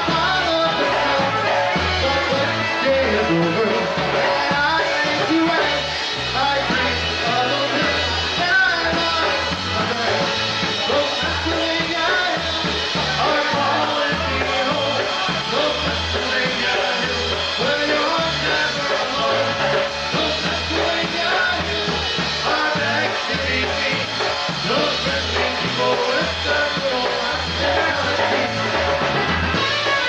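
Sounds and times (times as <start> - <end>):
polka band playing: 0.0 - 30.0.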